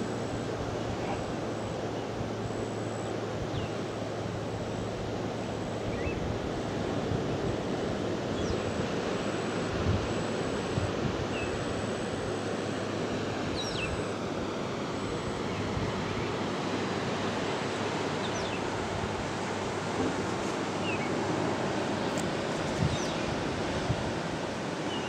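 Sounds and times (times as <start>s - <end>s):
distant surf: 0.0s - 25.0s
wind: 0.0s - 25.0s.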